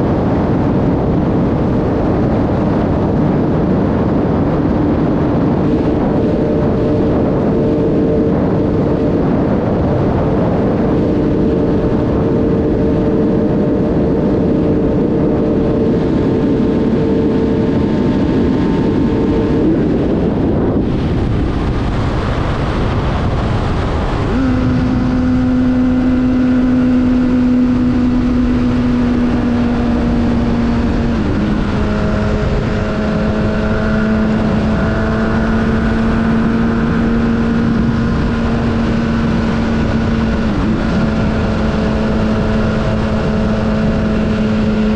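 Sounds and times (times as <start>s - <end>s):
motorcycle engine running: 0.0s - 44.9s
wind rush: 0.0s - 44.9s.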